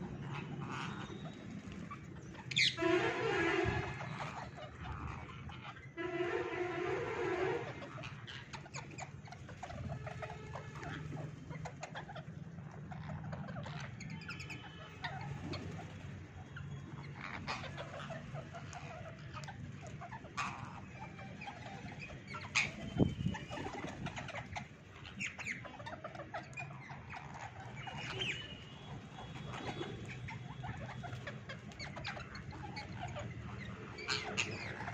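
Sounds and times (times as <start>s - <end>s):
parakeets squawking: 0.0s - 34.9s.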